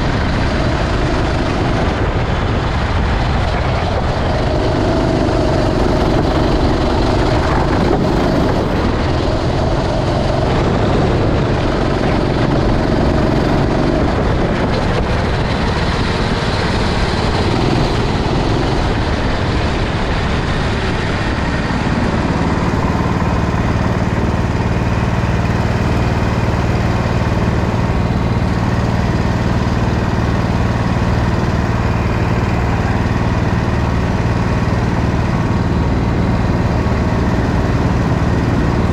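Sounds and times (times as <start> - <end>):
kart engine running at speed: 0.0 - 38.9.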